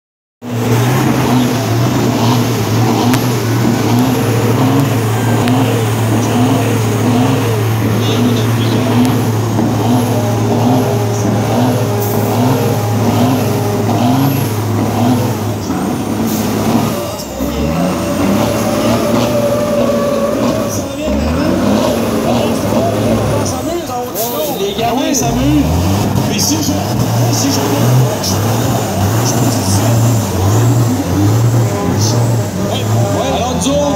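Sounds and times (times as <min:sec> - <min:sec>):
diesel engines revving high: 0:00.4 - 0:33.9
tires spinning on pavement: 0:00.4 - 0:33.9.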